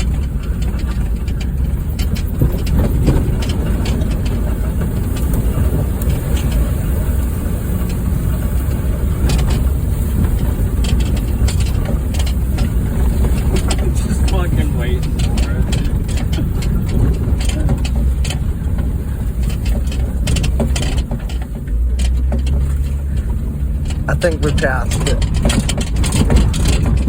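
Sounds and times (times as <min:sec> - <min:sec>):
car knocks and rattles: 0:00.0 - 0:27.0
engine and tyres rumbling: 0:00.0 - 0:27.0.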